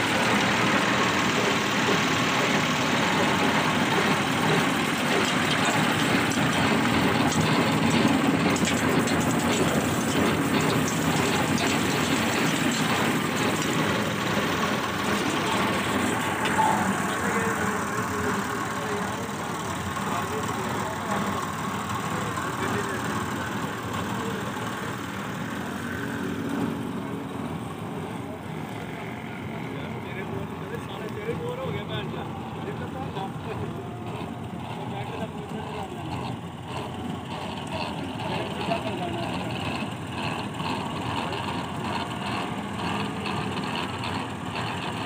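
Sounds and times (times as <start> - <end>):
thresher drum droning: 0.0 - 45.0
tractor engine under load: 0.0 - 45.0.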